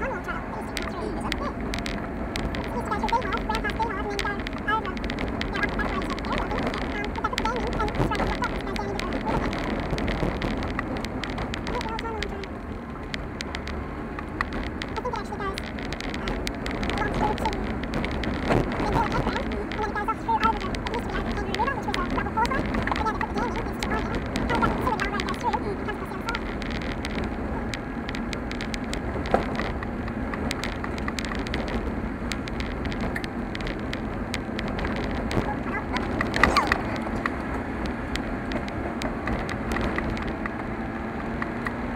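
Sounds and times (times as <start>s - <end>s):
gravel striking car: 0.0s - 41.9s
road rumble inside car: 0.0s - 41.9s.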